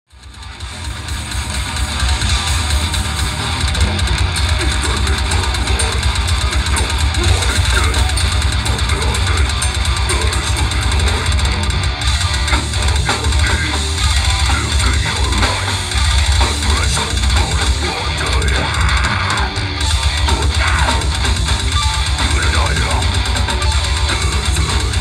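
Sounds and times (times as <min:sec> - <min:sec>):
distorted electric guitar and bass: 0:00.1 - 0:25.0
pounding drum kit: 0:00.1 - 0:25.0.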